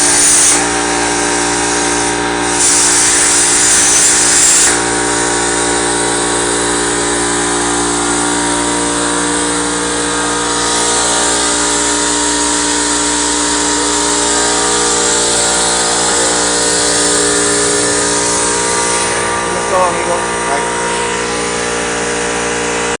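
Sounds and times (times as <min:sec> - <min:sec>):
plasma cutter hissing: 0:00.0 - 0:21.8
constant machine hum: 0:00.0 - 0:23.0.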